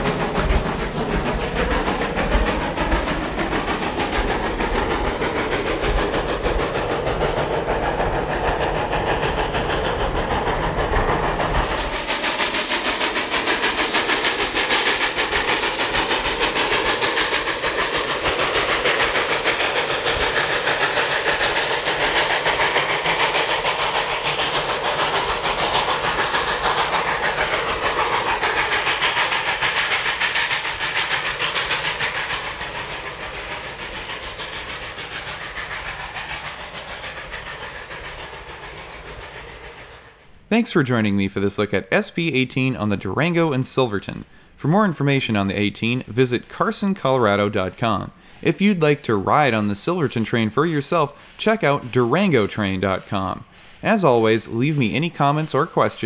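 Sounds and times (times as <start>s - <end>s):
steam locomotive exhaust and hiss: 0.0s - 56.0s
train wheels clacking on rail joints: 0.0s - 56.0s.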